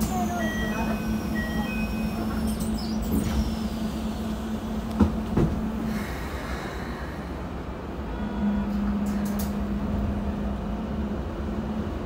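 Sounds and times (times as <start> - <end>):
train cabin hum: 0.0 - 12.0.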